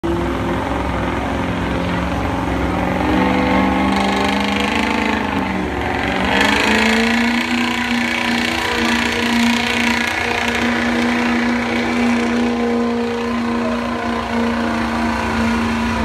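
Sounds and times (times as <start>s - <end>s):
truck engine at high revs: 0.0s - 16.0s.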